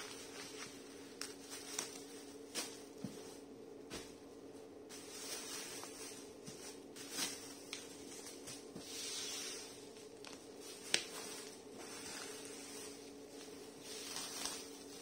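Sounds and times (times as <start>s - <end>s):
bubble wrap crackles: 0.0s - 3.1s, 4.9s - 15.0s
bubble wrap rustling and crinkling: 0.0s - 15.0s.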